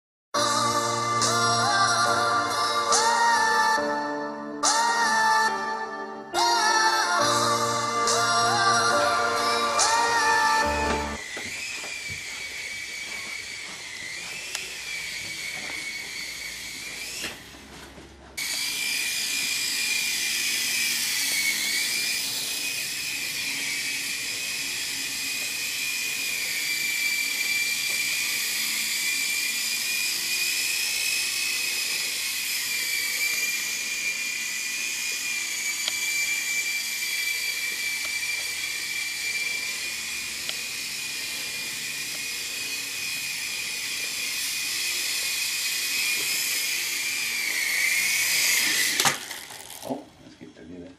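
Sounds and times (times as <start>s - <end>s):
rc helicopter motor whine: 0.4s - 4.0s, 6.4s - 50.8s.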